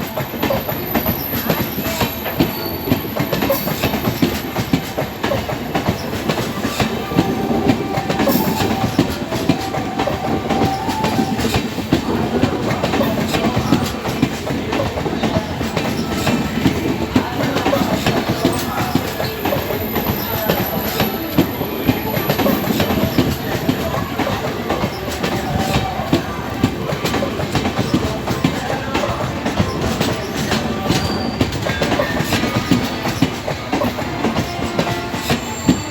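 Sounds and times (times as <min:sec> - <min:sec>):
train wheels clattering over rails: 0:00.0 - 0:35.9.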